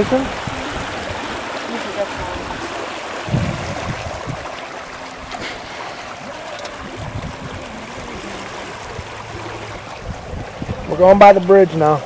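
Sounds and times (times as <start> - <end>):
water rushing along a hull: 0.0 - 12.0.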